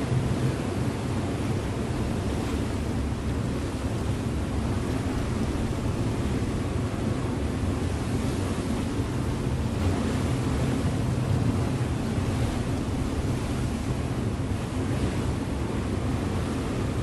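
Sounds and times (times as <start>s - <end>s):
ship engine humming: 0.0s - 17.0s
water washing along hull: 0.0s - 17.0s.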